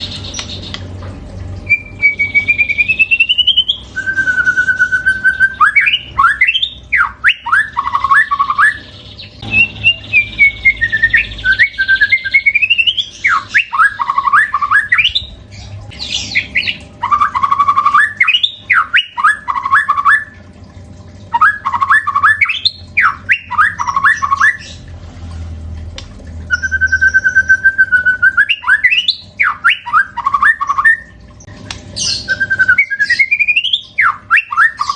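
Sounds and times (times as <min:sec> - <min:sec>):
bird singing whistled phrases: 0:01.6 - 0:20.4, 0:21.3 - 0:24.7, 0:26.5 - 0:31.2, 0:32.0 - 0:34.9.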